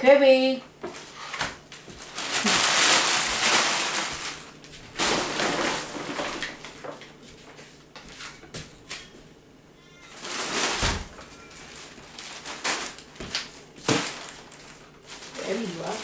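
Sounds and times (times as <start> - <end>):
plastic bag rustling: 0.8 - 8.4, 10.0 - 16.0.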